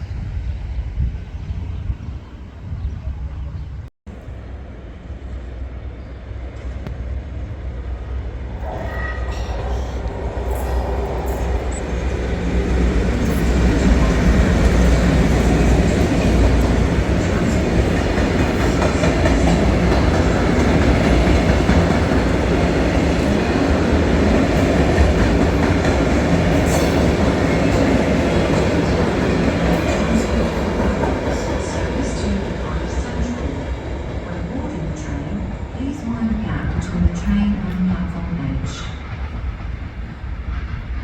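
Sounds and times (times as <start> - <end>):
train running through: 0.0 - 41.0.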